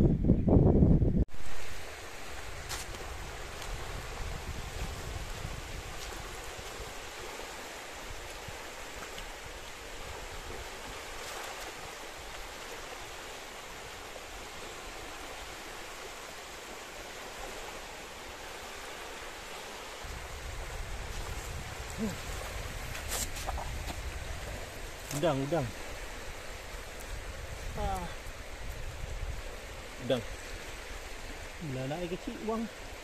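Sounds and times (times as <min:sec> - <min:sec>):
wind rumble on microphone: 0:00.0 - 0:16.3, 0:19.4 - 0:33.0
small waves washing onto shore: 0:01.3 - 0:33.0.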